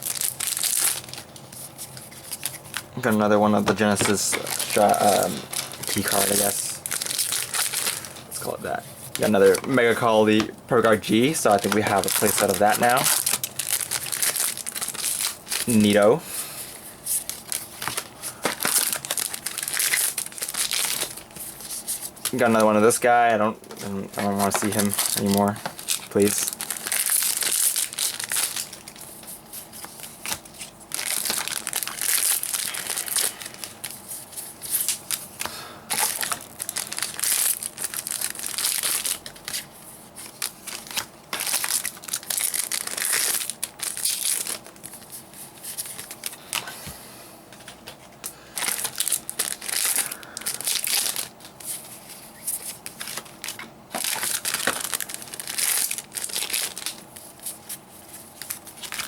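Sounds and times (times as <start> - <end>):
foil wrappers tearing and crinkling: 0.0 - 16.2, 17.0 - 46.7, 47.6 - 59.0.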